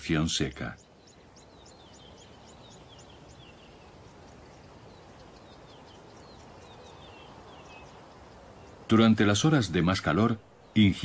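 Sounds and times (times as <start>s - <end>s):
low background hiss: 0.0s - 11.0s
small bird chirping: 0.0s - 11.0s.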